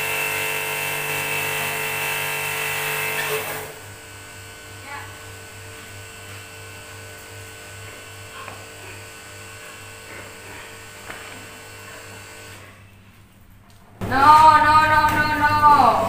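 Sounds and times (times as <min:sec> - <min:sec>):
pressure washer motor hum: 0:00.0 - 0:16.0.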